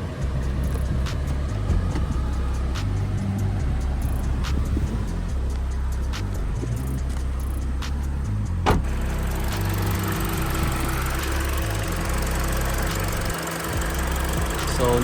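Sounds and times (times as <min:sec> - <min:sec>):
air conditioning compressor hum: 0:00.0 - 0:15.0
car engine idling: 0:00.0 - 0:15.0.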